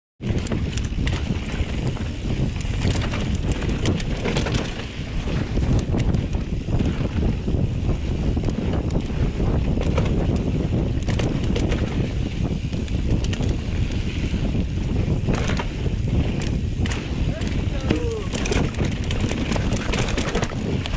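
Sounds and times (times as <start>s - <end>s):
bike rattling over bumps: 0.2s - 20.9s
bike rolling on dirt trail: 0.2s - 20.9s
wind buffeting microphone: 0.2s - 20.9s.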